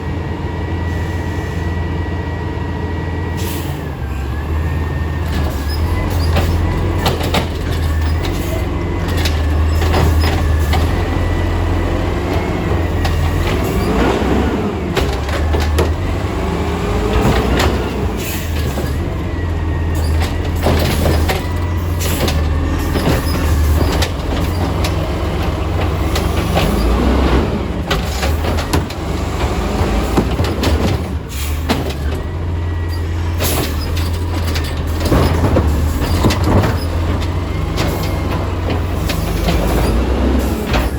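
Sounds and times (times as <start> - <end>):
garbage truck engine running: 0.0 - 40.9.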